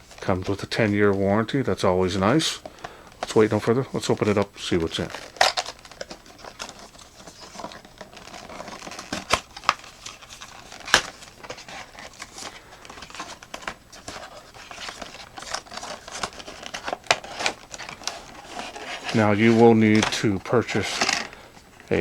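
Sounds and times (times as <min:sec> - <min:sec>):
cardboard packaging rustling: 0:00.0 - 0:22.0.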